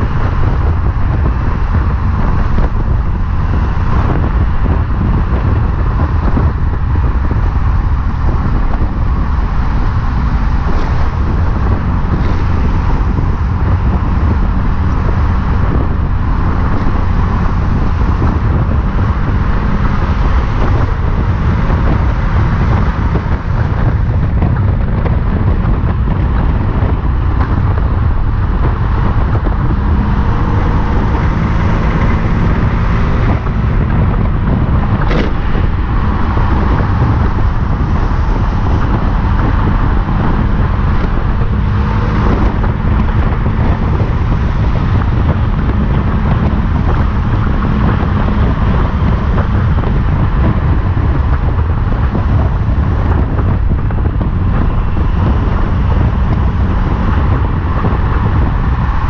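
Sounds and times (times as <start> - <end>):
wind and road noise rumble: 0.0 - 59.0.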